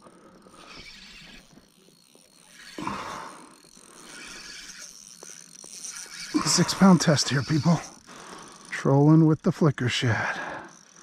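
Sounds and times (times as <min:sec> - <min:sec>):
fishing reel clicking and whirring: 0:00.0 - 0:11.0.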